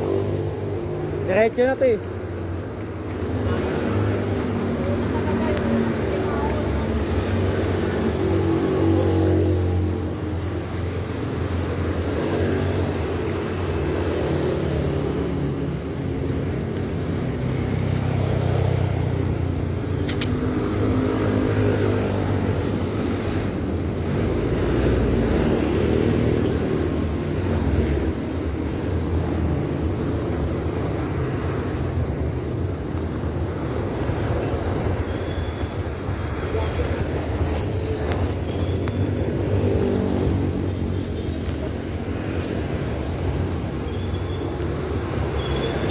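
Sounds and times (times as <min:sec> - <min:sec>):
motor traffic: 0:00.0 - 0:45.9.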